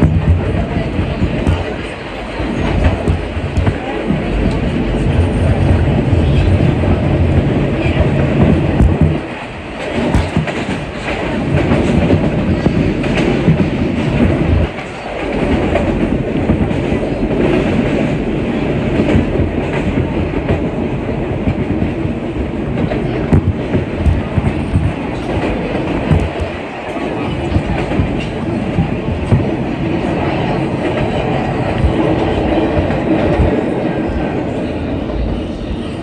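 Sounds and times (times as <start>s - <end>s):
subway train wheels rumbling: 0.0s - 36.0s.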